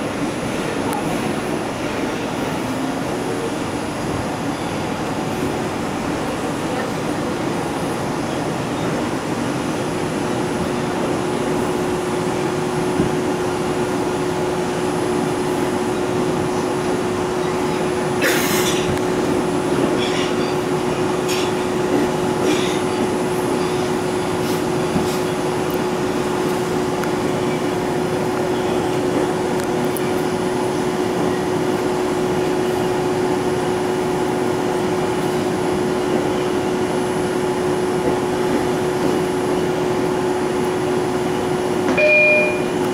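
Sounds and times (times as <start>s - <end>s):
subway car rumbling in tunnel: 0.0s - 42.9s.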